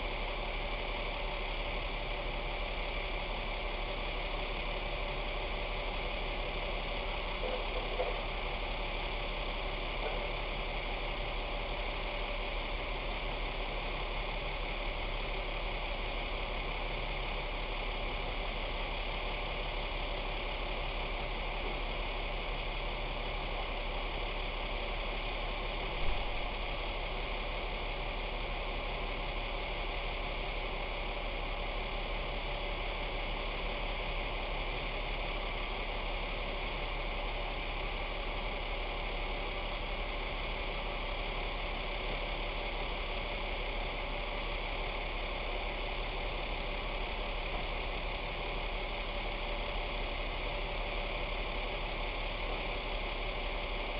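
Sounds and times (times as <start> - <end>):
truck engine idling: 0.0 - 53.9.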